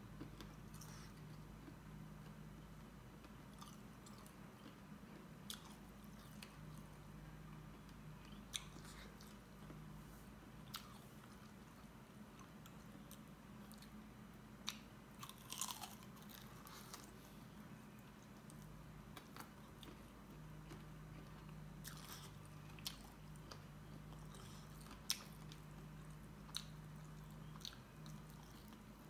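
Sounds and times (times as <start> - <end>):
man chewing food: 0.1 - 14.0, 14.6 - 29.0.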